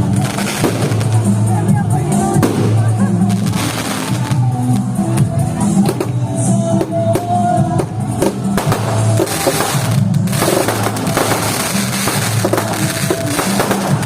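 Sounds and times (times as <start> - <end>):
fireworks bangs and crackle: 0.0 - 14.0
music with drum beat: 0.0 - 14.0.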